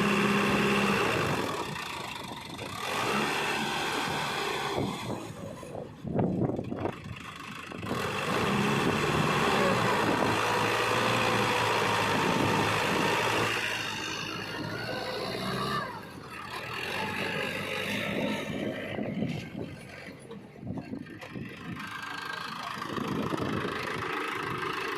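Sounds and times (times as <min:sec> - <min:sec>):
heavy machinery diesel engine: 0:00.0 - 0:24.9.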